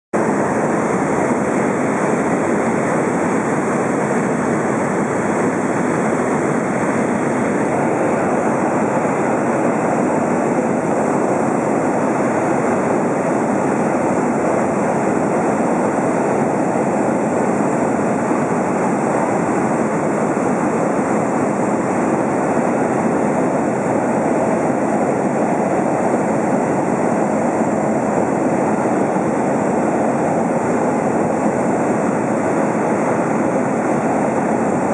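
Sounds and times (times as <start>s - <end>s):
aircraft engine and propeller drone: 0.2s - 34.9s.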